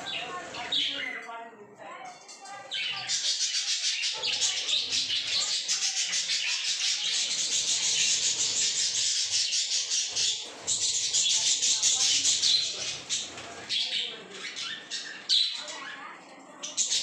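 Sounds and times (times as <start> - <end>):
budgerigars chattering: 0.0 - 1.2, 2.7 - 16.0, 16.6 - 17.0.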